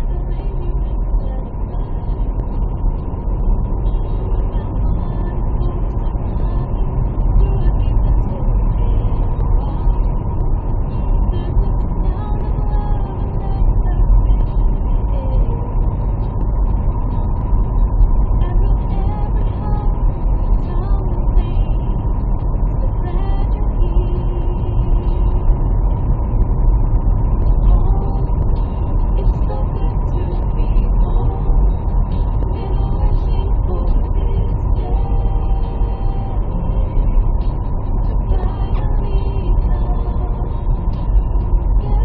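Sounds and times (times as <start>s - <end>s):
faint radio music: 0.0s - 42.0s
moving vehicle rumble: 0.0s - 42.0s.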